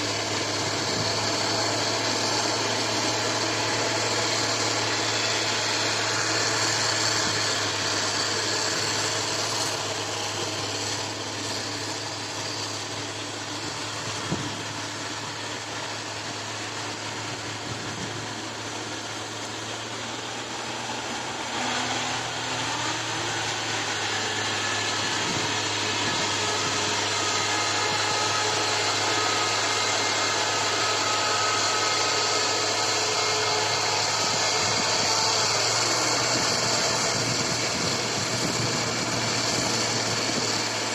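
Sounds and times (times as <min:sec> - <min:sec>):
combine harvester engine humming: 0:00.0 - 0:40.9.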